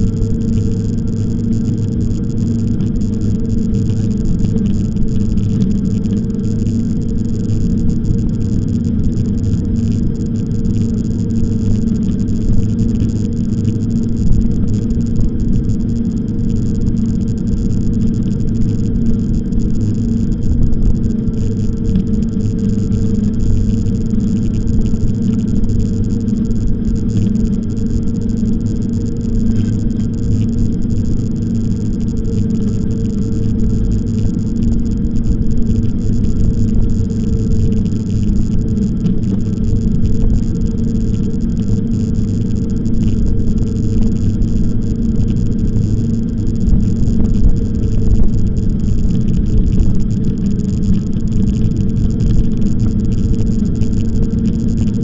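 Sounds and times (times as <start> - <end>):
e-bike riding rumble: 0.0 - 55.0.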